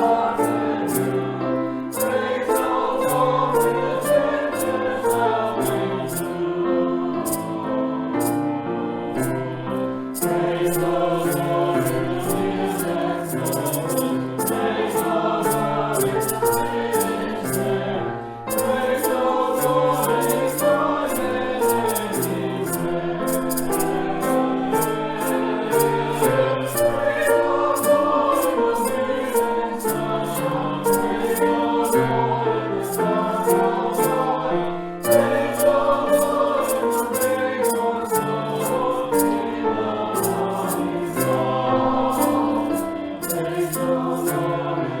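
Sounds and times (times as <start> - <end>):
church choir singing: 0.0 - 45.0.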